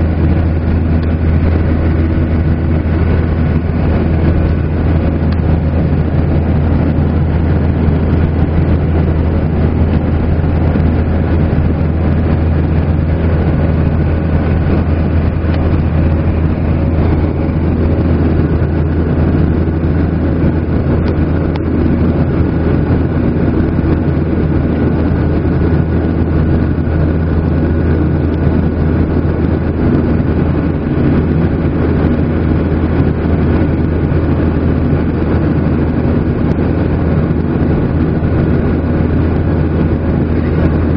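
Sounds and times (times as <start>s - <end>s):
deep hum: 0.0s - 40.9s
jet engines droning: 0.0s - 40.9s
rushing airflow: 0.0s - 40.9s.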